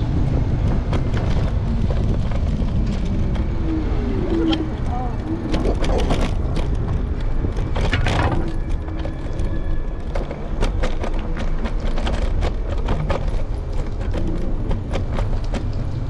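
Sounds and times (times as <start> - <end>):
wind and road rumble: 0.0 - 16.0.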